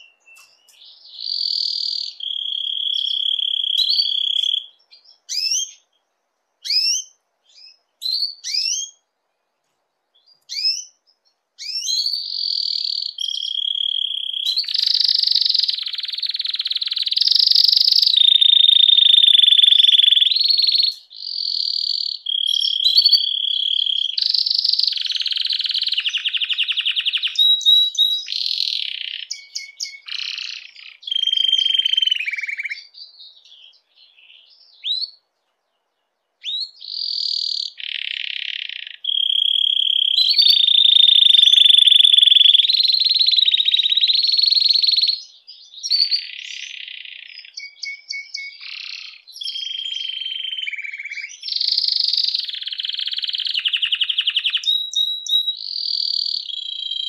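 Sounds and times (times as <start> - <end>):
sharp upswept chirps: 0.0 - 5.9, 10.2 - 35.2, 36.4 - 57.0
canary singing trills: 0.0 - 9.6, 10.2 - 57.0.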